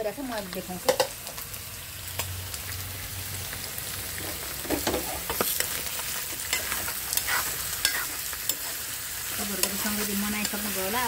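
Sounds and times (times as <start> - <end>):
meat sizzling in iron pan: 0.0 - 11.0.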